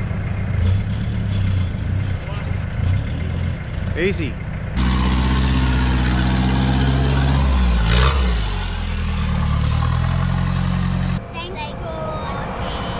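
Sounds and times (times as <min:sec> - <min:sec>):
engine working under load: 0:00.0 - 0:12.9.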